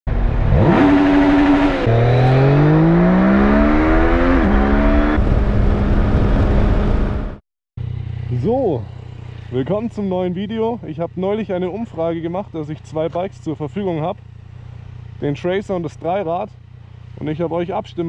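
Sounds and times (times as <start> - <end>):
motorcycle engine revving: 0.1 - 17.4.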